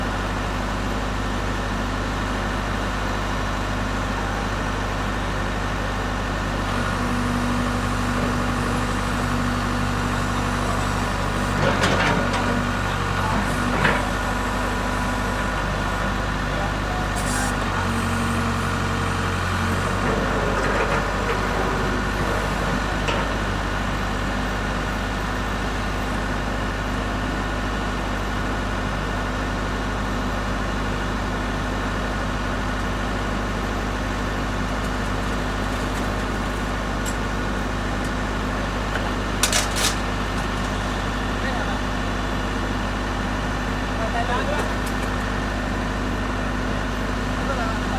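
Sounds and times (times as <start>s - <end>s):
diesel engine running: 0.1s - 47.9s.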